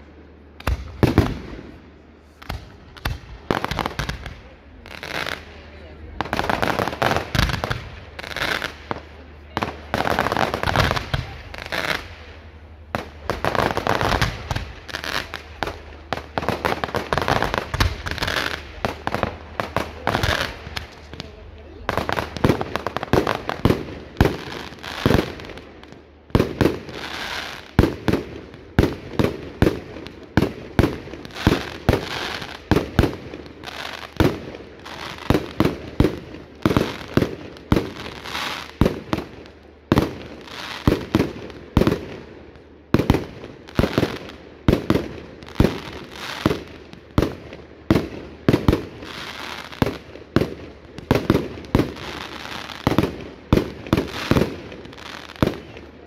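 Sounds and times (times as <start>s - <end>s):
fireworks crackling: 0.0s - 56.0s
fireworks bangs: 0.6s - 56.0s.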